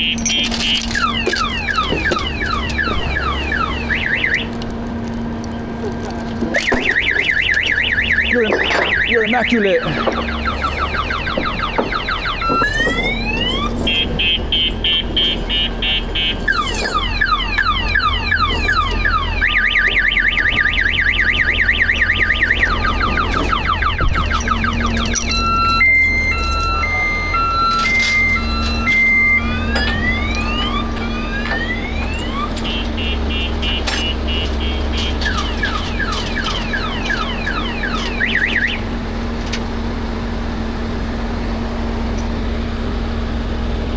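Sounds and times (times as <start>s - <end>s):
car alarm siren: 0.0s - 5.4s, 6.4s - 39.1s
engine idling: 0.0s - 43.9s.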